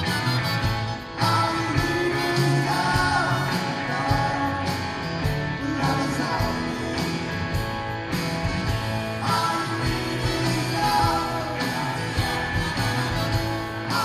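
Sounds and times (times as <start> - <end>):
person singing: 0.0 - 7.2, 9.2 - 14.0
live rock band playing: 0.0 - 14.0.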